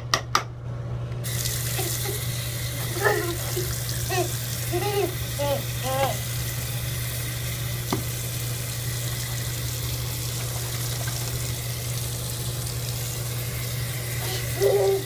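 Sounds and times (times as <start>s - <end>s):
faucet running into a sink: 1.2s - 15.0s.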